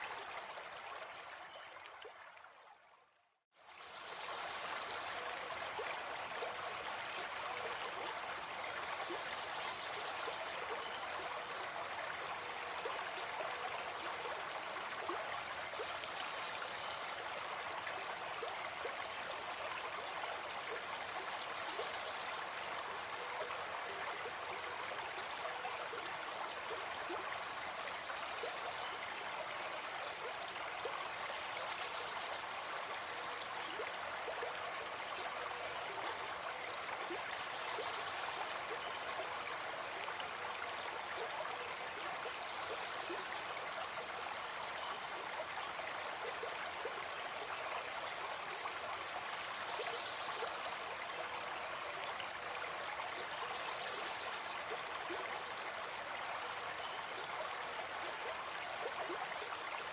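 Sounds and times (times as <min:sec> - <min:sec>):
stream flowing: 0:00.0 - 0:03.0, 0:03.6 - 0:59.9.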